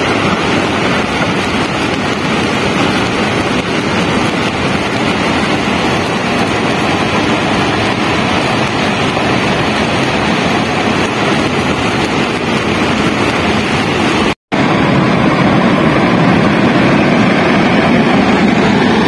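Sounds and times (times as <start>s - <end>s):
mountain torrent rushing roar: 0.0s - 19.0s.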